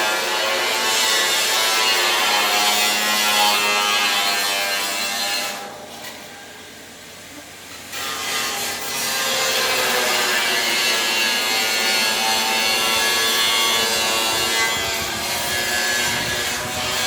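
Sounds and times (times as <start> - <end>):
welding hiss and crackle: 0.0 - 6.7, 7.7 - 17.0.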